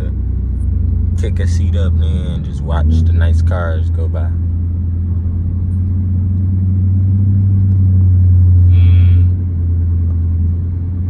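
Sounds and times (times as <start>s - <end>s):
car rumbling at cruising pace: 0.0s - 11.0s.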